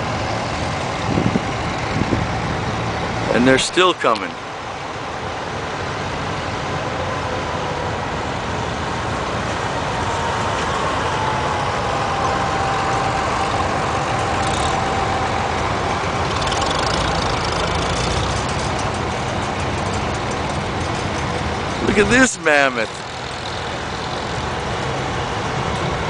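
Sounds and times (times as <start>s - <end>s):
tractor engines running: 0.0s - 26.0s.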